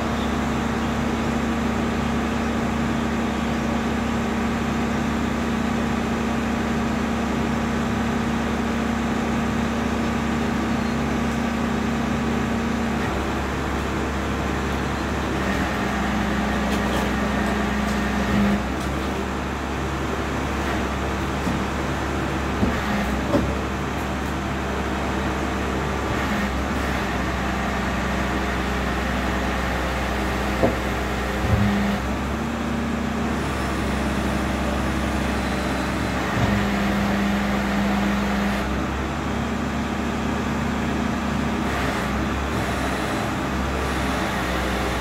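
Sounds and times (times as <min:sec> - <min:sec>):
diesel truck engine droning: 0:00.0 - 0:45.0.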